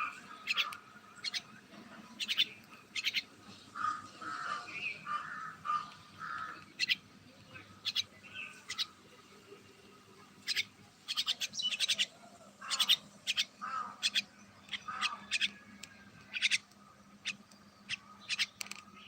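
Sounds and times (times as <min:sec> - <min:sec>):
rough bird chattering: 0:00.0 - 0:09.0, 0:10.4 - 0:15.6, 0:16.3 - 0:19.0
myna birds chirping: 0:00.0 - 0:19.0.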